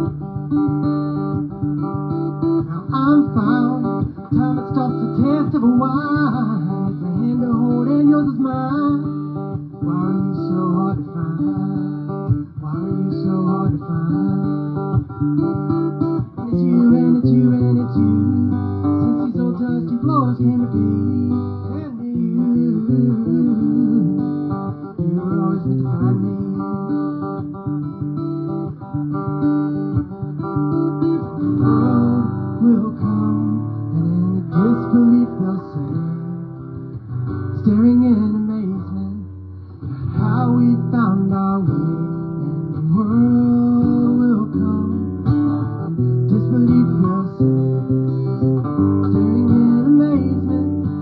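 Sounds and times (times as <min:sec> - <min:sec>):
acoustic guitar plucked and strummed: 0:00.0 - 0:51.0.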